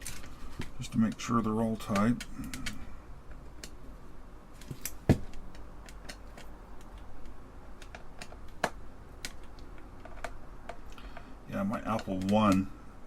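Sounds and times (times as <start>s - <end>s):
small clicks and taps: 0.0s - 3.8s, 4.6s - 12.7s.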